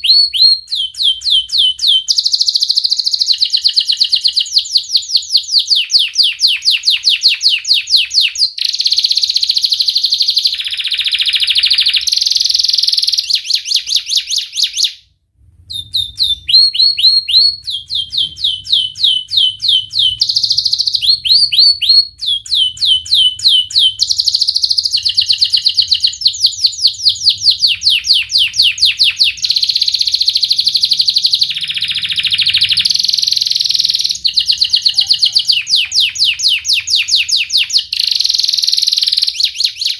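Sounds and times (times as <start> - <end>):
canary chirping and trilling: 0.0 - 39.9.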